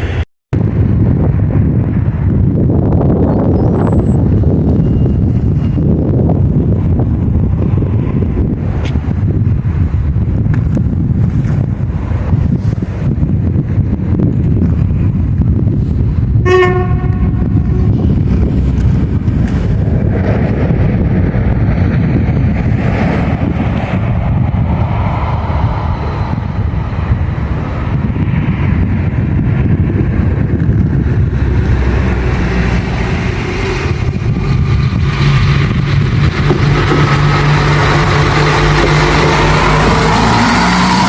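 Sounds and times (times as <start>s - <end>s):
steady engine hum: 0.0s - 41.0s
train rumbling: 0.0s - 41.0s.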